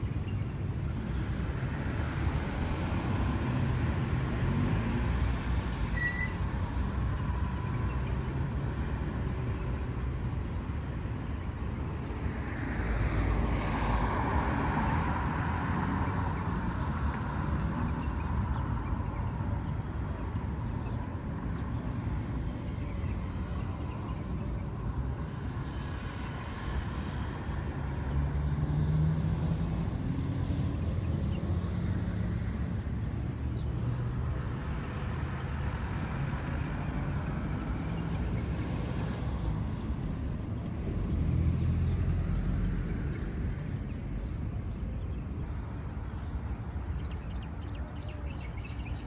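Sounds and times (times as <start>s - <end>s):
low rumble of road vehicles: 0.0s - 49.0s.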